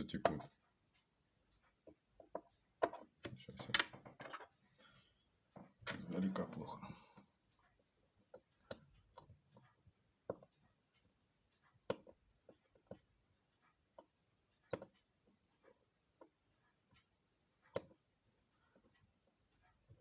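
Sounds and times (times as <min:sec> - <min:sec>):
small clicks and taps of tools: 0:00.0 - 0:05.8, 0:07.2 - 0:20.0.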